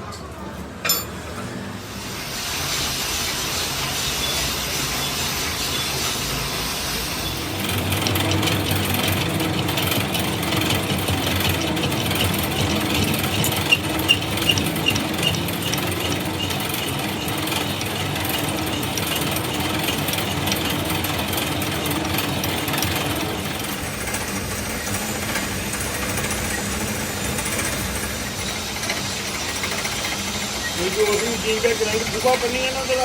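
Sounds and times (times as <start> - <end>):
metalworking machinery rattling: 0.8 - 1.6, 2.6 - 33.0.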